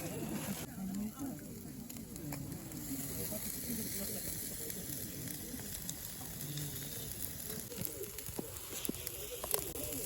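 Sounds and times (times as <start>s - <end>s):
fish sizzling on a grill: 0.0s - 10.0s.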